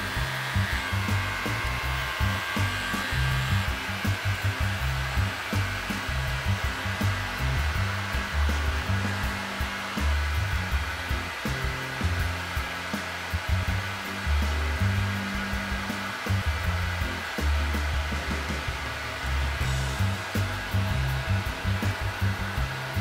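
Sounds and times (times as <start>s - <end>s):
electric pet clipper whirring: 0.0s - 23.0s
electronic background music: 0.0s - 23.0s.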